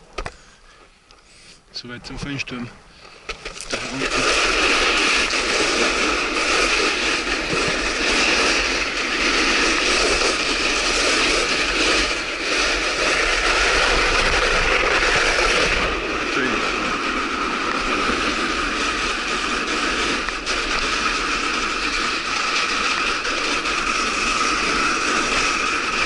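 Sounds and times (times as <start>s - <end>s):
kite skis scraping over slush: 3.5s - 26.0s
wind buffeting microphone: 3.6s - 26.0s.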